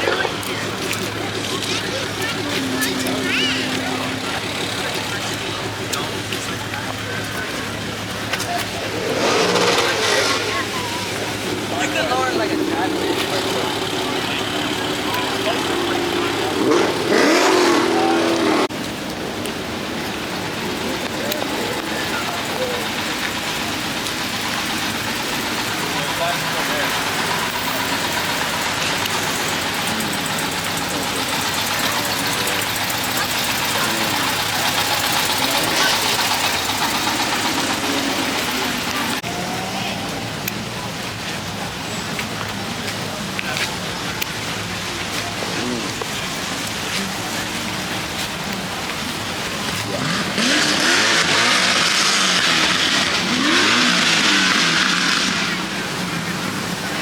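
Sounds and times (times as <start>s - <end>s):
car engines idling: 0.0s - 57.0s
people chatting: 0.0s - 57.0s
steady rain: 0.0s - 57.0s.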